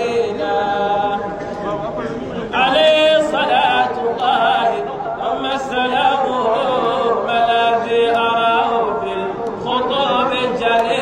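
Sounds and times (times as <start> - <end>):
man chanting into microphone: 0.0 - 1.9, 2.5 - 11.0.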